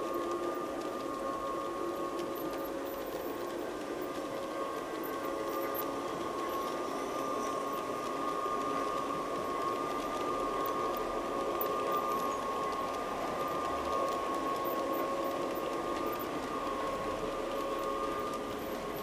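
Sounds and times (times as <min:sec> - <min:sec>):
model train motor whine: 0:00.0 - 0:19.0
wheels on rails: 0:00.0 - 0:19.0.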